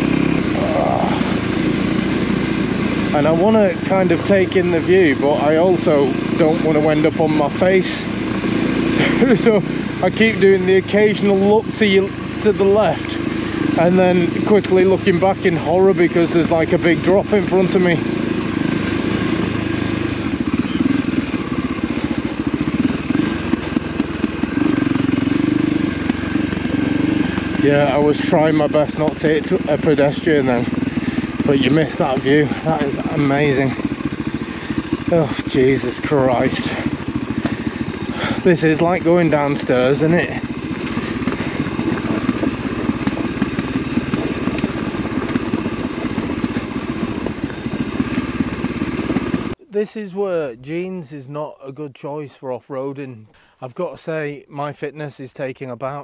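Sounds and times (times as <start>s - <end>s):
motorcycle engine at low revs: 0.0s - 49.6s
gravel clattering under tyres: 1.6s - 49.6s.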